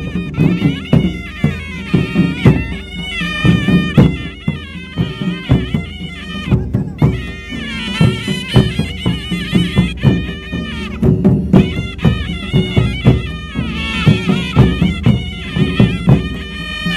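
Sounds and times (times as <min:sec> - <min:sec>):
drum strokes: 0:00.0 - 0:16.9
reedy wind instrument melody: 0:00.0 - 0:16.9.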